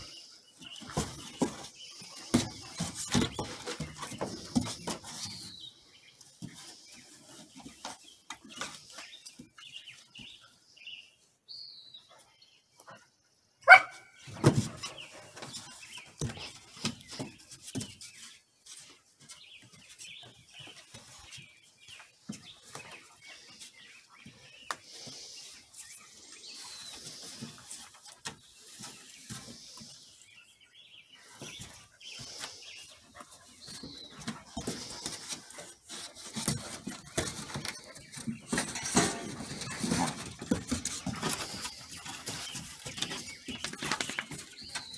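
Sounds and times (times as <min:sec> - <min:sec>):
paws scuffling on wooden boards: 0:00.0 - 0:10.4, 0:13.7 - 0:44.9.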